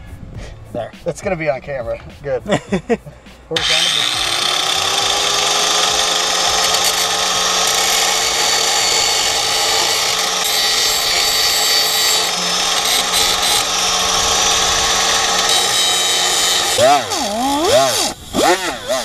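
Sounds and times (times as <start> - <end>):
angle grinder grinding metal: 3.5 - 19.0.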